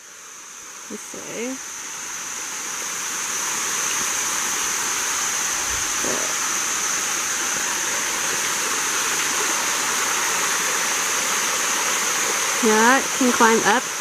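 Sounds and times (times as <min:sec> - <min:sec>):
waterfall rushing over rock: 0:00.0 - 0:14.0.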